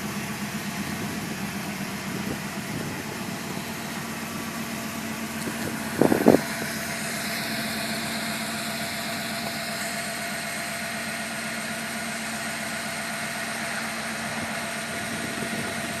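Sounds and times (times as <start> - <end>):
turbocharged engine idling: 0.0 - 16.0.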